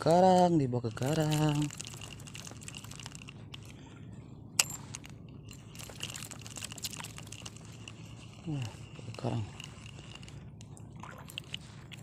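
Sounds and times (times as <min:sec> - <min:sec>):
fishing reel ticking and creaking: 0:00.0 - 0:03.8, 0:04.6 - 0:12.0
wind and water rumble: 0:01.2 - 0:12.0.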